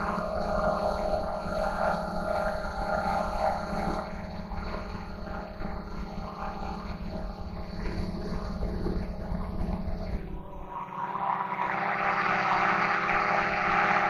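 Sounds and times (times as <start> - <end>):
drone propellers whirring: 0.0 - 14.0.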